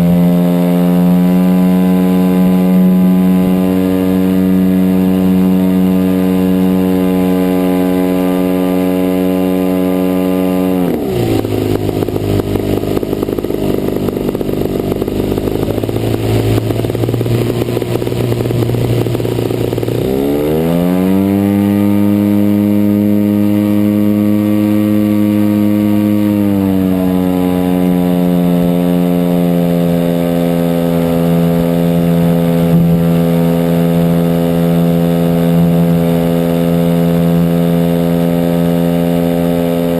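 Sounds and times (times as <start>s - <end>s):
model airplane engine running: 0.0s - 39.9s.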